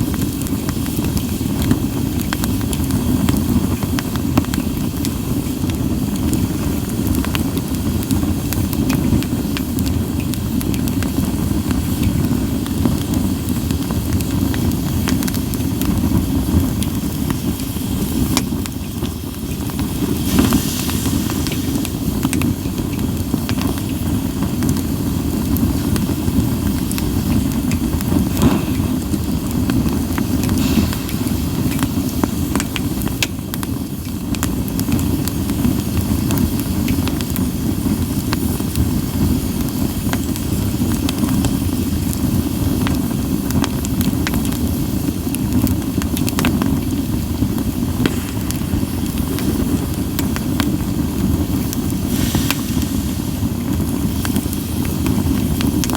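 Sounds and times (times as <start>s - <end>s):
campfire crackling and popping: 0.0s - 55.9s
low fire rumble: 0.0s - 55.9s.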